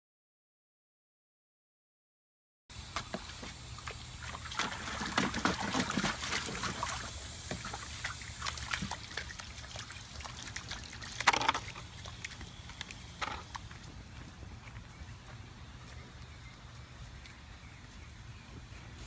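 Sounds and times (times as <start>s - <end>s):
puppies splashing in water: 2.7s - 18.8s.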